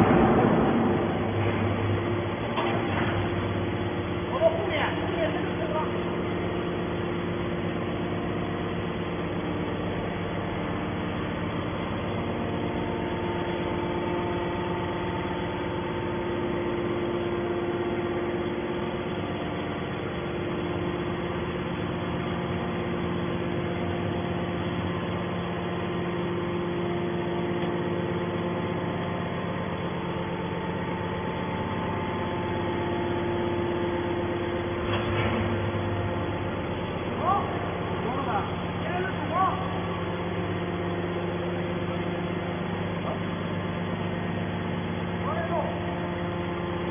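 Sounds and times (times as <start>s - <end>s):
baler motor and pump humming: 0.0s - 46.9s.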